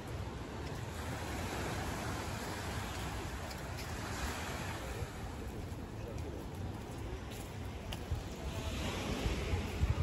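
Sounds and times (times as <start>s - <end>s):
sea surf washing onto beach: 0.0s - 10.0s.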